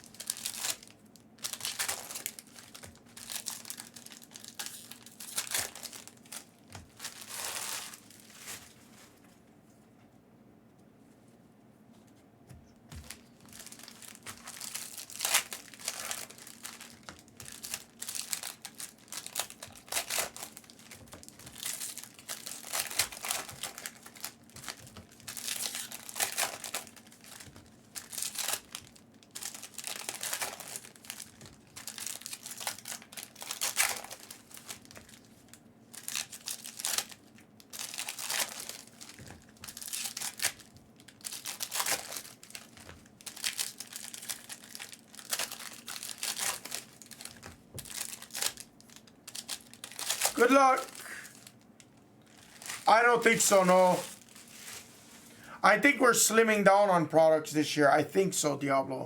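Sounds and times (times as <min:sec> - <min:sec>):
card pack wrappers crinkling and tearing: 0:00.0 - 0:09.1, 0:12.9 - 0:56.6.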